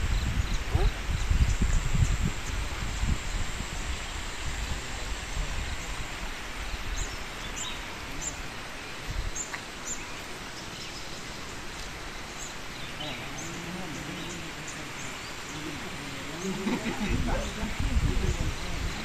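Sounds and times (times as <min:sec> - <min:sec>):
outdoor hiss: 0:00.0 - 0:19.0.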